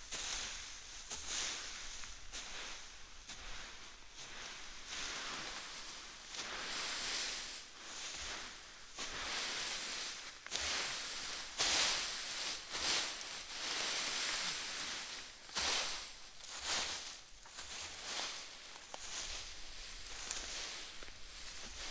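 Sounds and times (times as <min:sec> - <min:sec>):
rustling scraping noise: 0:00.1 - 0:21.9.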